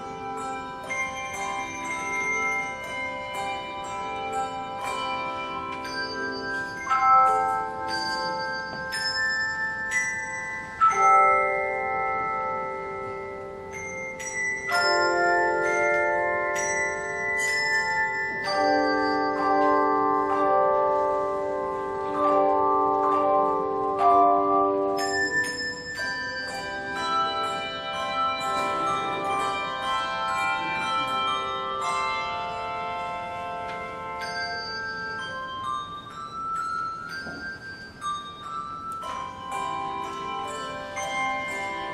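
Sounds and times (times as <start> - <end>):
handbell choir ringing: 0.0 - 41.9.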